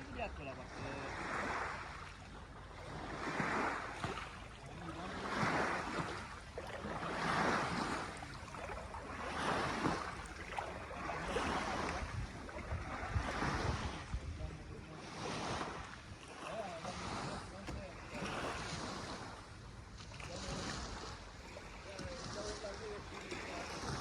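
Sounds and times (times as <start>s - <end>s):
small waves washing: 0.0s - 24.0s
wind rumble on microphone: 2.7s - 24.0s.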